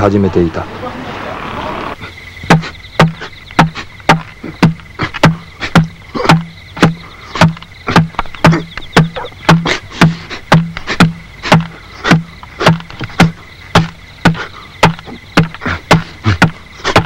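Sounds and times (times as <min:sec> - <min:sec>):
percussive beat with low hum: 0:02.5 - 0:17.0.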